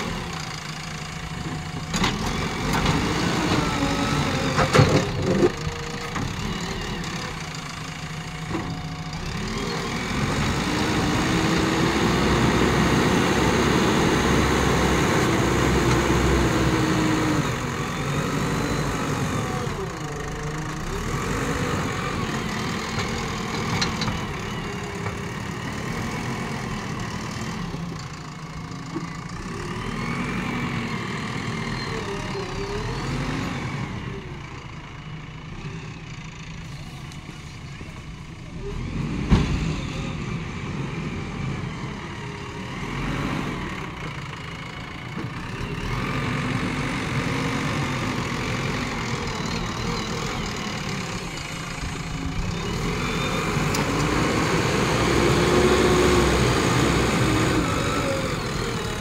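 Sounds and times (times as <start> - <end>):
diesel engine revving: 0.0 - 59.0
loader bucket working dirt: 0.0 - 59.0.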